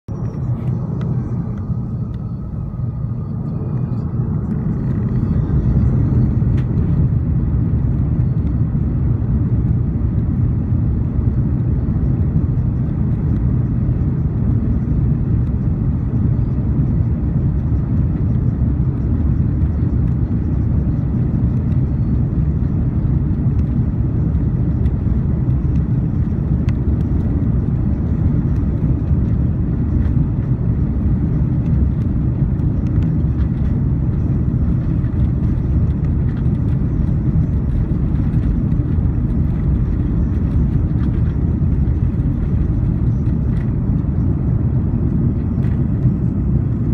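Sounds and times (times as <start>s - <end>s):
jet engines deep rumble: 0.0s - 46.9s.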